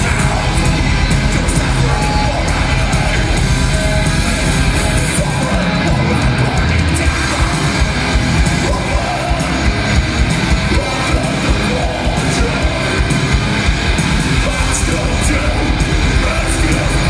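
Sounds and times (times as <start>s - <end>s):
distorted electric guitars: 0.0s - 17.0s
fast drums: 0.0s - 17.0s
shouted vocals: 0.0s - 17.0s.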